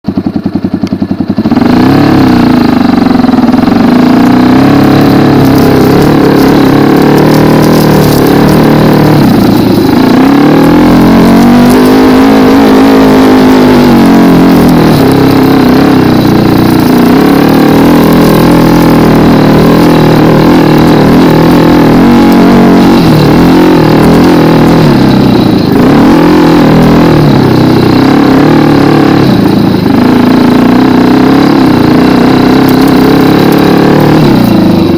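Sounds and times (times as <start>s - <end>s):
dirt bike engine revving: 0.3s - 34.9s.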